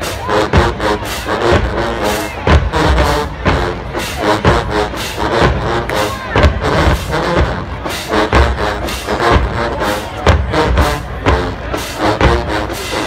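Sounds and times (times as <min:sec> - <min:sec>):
crowd: 0:00.0 - 0:13.0
marching band playing: 0:00.0 - 0:13.0.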